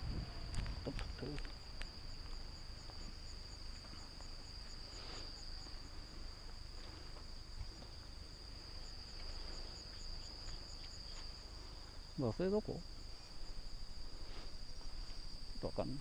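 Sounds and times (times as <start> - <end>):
cricket chirping: 0.0 - 16.0
crickets trilling: 0.0 - 16.0.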